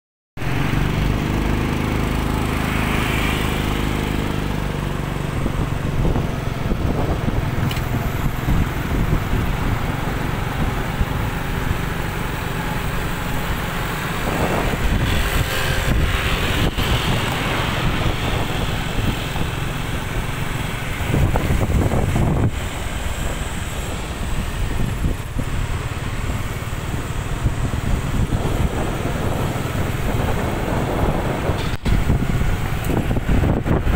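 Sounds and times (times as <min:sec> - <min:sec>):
engine hum: 0:00.4 - 0:33.9
low wind rumble on microphone: 0:00.4 - 0:33.9
motorbike engines running: 0:00.4 - 0:33.9
road traffic: 0:00.4 - 0:33.9.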